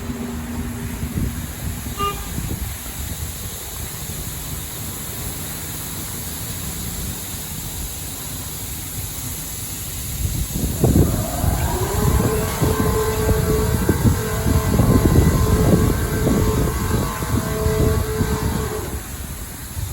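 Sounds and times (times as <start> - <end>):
car wash rumble and hiss: 0.0 - 19.9.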